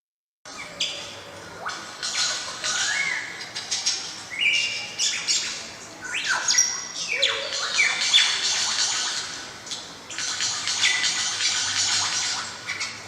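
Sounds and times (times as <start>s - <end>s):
birds chirping and calling: 0.5s - 13.0s.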